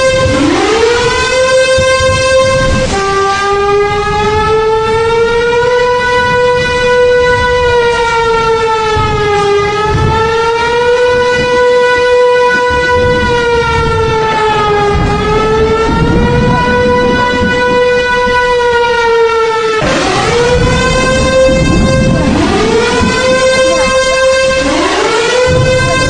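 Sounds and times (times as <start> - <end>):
siren wailing: 0.0 - 26.0.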